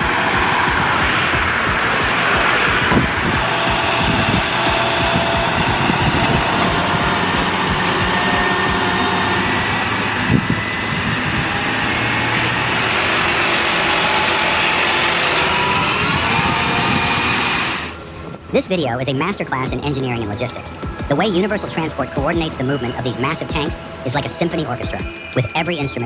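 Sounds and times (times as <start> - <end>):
faint gliding whines: 0.0 - 26.0
heavy truck engine running: 0.0 - 26.0.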